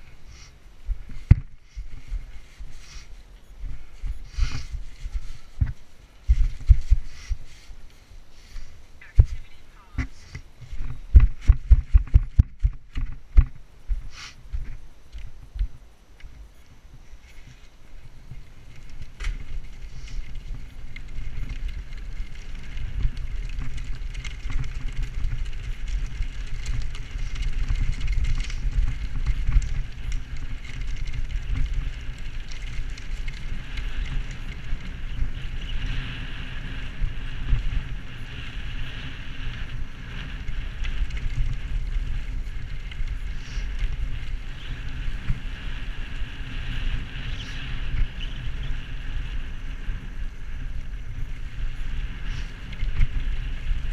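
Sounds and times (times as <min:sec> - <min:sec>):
bicycle tyres crunching gravel: 0:00.0 - 0:53.9
wind rumble on microphone: 0:00.0 - 0:53.9.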